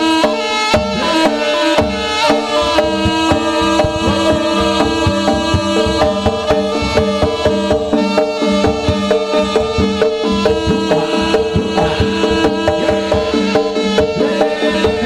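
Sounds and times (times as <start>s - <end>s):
hand drums beating: 0.0s - 15.0s
held melodic line: 0.0s - 15.0s.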